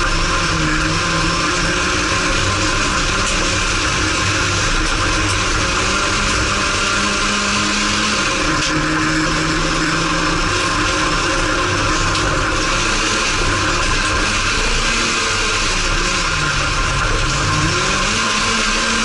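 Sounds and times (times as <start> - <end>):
race car engine at high revs: 0.0 - 19.0
tyres on loose dirt: 0.0 - 19.0.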